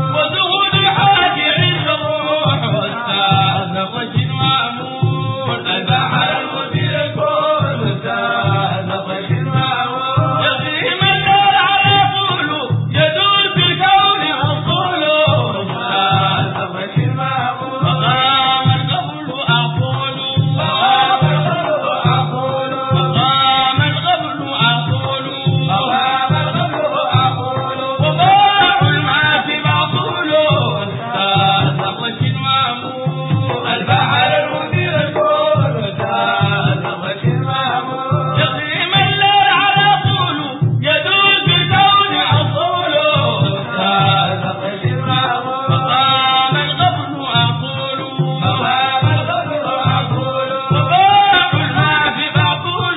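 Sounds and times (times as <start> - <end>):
men singing a chanted melody: 0.0 - 52.9
steady low drum beat: 0.0 - 52.9.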